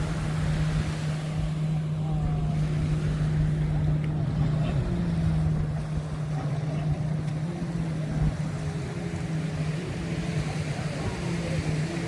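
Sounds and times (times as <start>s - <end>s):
low engine hum: 0.0s - 12.0s
traffic noise: 0.0s - 12.0s.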